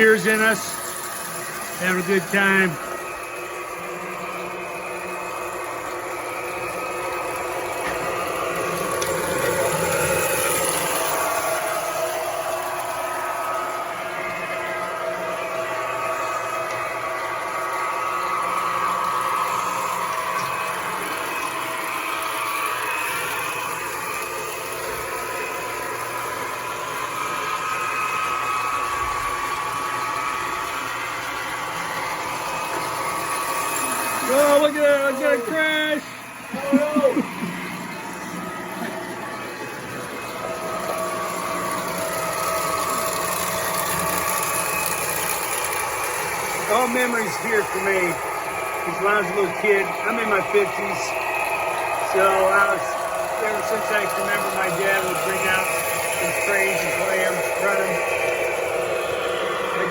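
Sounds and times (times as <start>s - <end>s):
toy electric train running: 0.0s - 59.9s
whining tone: 0.0s - 59.9s.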